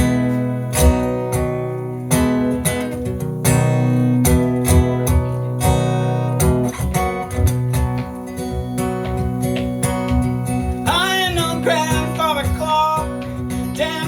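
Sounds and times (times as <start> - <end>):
strummed acoustic guitar chords: 0.0 - 14.0.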